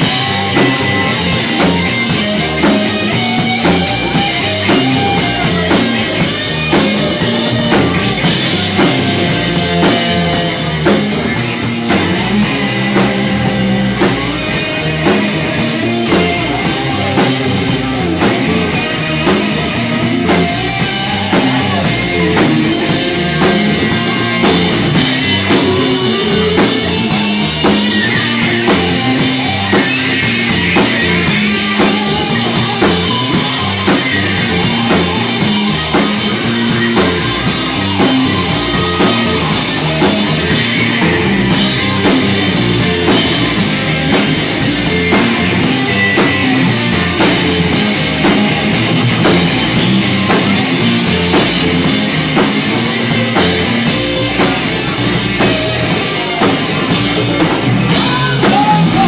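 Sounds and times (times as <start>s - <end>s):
bass guitar: 0.0s - 59.0s
drum kit beat: 0.0s - 59.0s
electric guitar lead: 0.0s - 59.0s.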